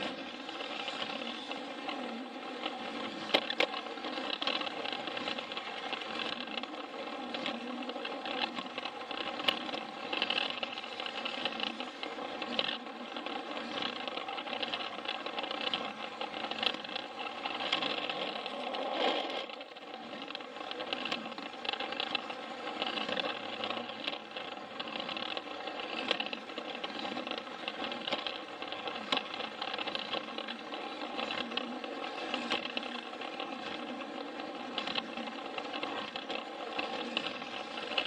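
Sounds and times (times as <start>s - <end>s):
toy train motor whirring: 0.0s - 38.0s.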